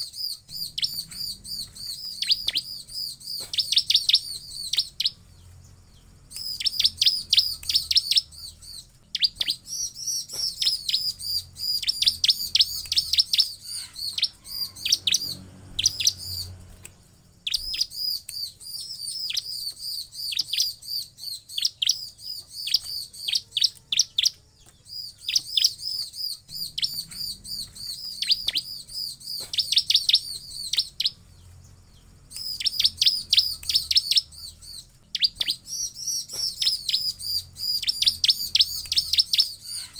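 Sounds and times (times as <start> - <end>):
bird sharp high chirps: 0.0 - 39.9.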